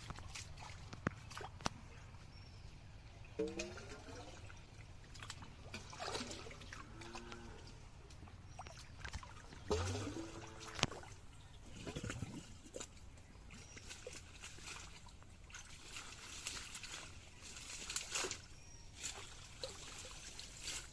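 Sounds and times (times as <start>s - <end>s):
water splashing and trickling: 0.0s - 20.9s.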